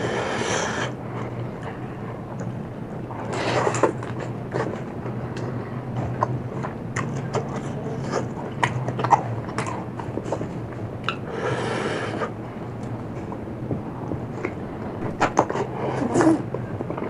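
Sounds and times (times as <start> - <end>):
steady low hum: 0.0 - 17.0
person chewing crunchy food: 2.4 - 17.0.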